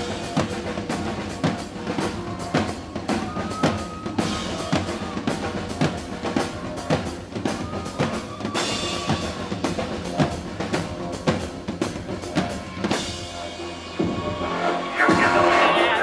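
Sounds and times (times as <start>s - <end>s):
drum kit played hard: 0.0s - 16.0s
live band music: 0.0s - 16.0s.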